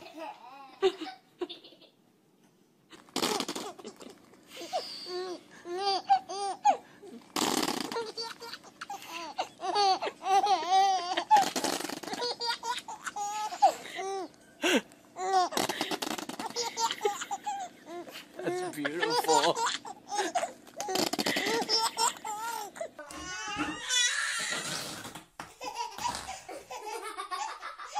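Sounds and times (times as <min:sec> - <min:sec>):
baby giggling: 0:03.0 - 0:14.3, 0:15.2 - 0:24.6, 0:25.6 - 0:27.9.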